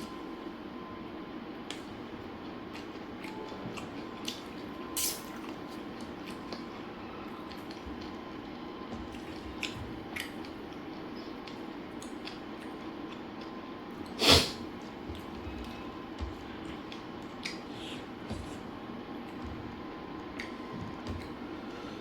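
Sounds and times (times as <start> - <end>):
steady low hum: 0.0 - 22.0
person chewing food: 2.4 - 21.6.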